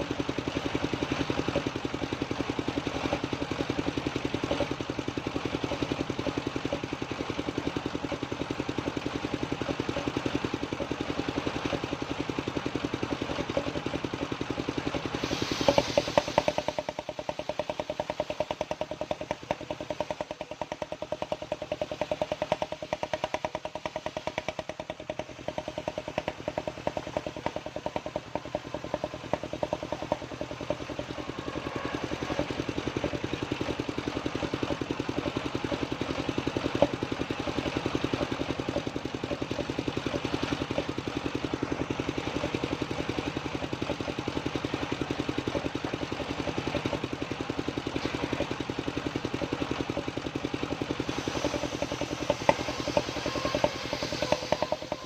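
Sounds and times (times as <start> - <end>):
engine-driven sawmill running: 0.0 - 55.0.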